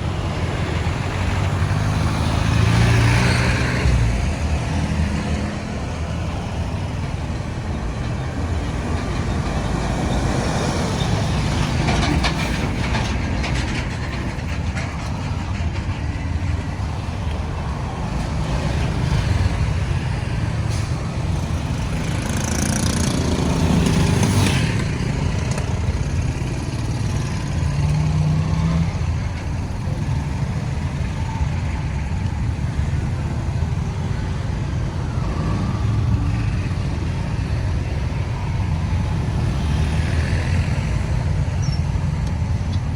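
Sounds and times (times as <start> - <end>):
tyres on road: 0.0 - 42.9
vehicles passing: 0.0 - 42.9.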